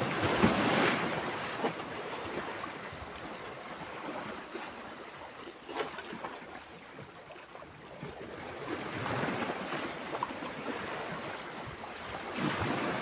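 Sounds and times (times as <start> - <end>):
waves splashing against boulders: 0.0 - 6.6, 8.0 - 13.0.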